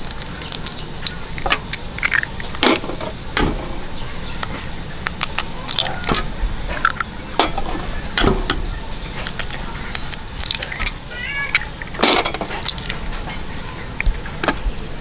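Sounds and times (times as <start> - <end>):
eggshells cracking: 0.0 - 3.6, 4.2 - 7.2, 8.8 - 14.5.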